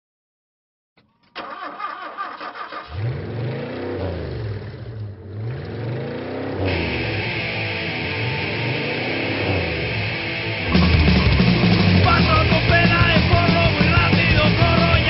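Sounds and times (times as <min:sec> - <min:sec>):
car engine starting and revving: 0:01.4 - 0:15.0.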